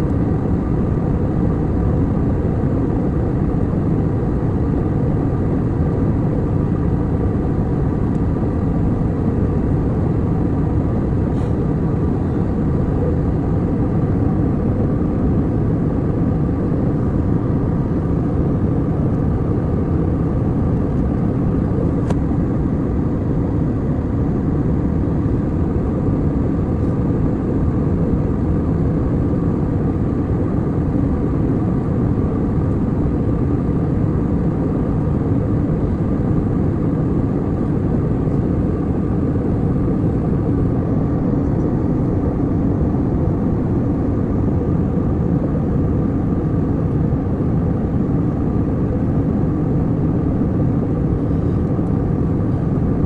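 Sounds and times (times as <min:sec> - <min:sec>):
airliner cabin noise: 0:00.0 - 0:53.0.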